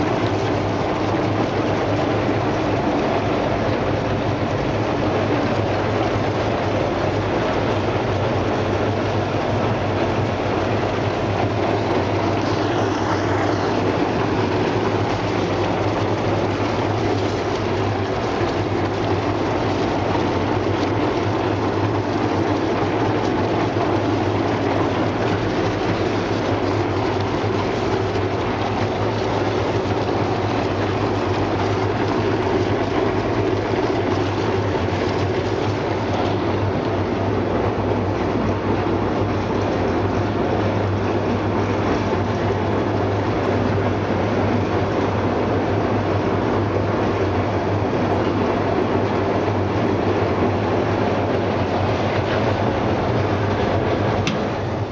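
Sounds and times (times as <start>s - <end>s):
fish scaling machine running: 0.0s - 54.9s
low motor hum: 0.0s - 54.9s.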